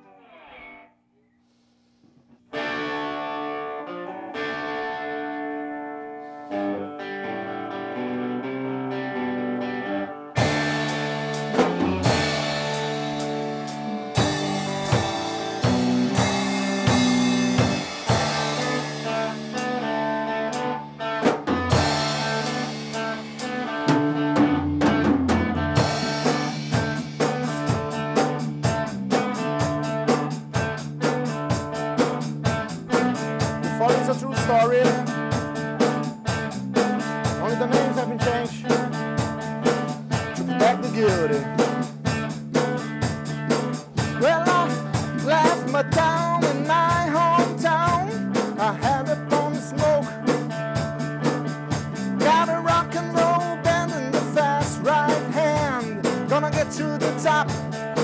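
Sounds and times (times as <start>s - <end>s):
electric guitar chords: 2.5s - 58.0s
drums and bass beat: 10.4s - 58.0s.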